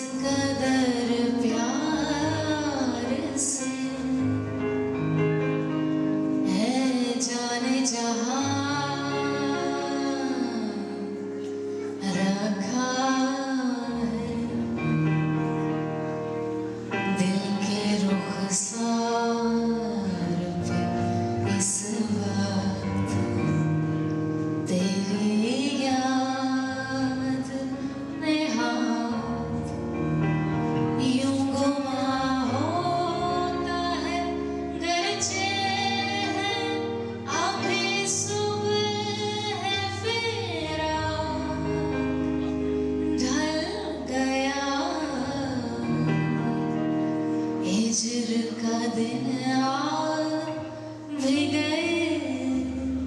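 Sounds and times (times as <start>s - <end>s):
woman singing: 0.0s - 5.1s, 6.3s - 15.0s, 16.9s - 30.1s, 30.8s - 53.0s
instrumental accompaniment: 0.0s - 53.0s.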